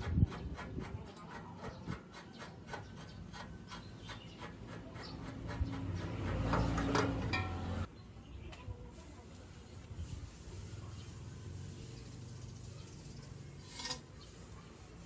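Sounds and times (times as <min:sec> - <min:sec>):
hand scraping strokes on workpiece: 0:00.0 - 0:07.9, 0:09.0 - 0:15.0.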